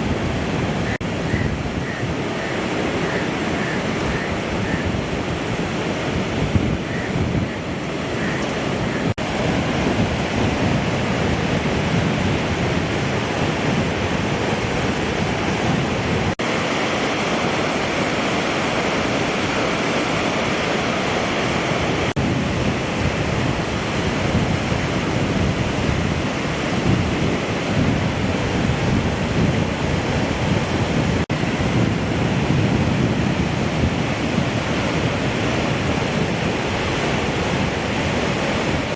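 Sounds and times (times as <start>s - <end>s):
roar of rushing floodwater: 0.0s - 38.9s
wind buffeting microphone: 0.0s - 38.9s.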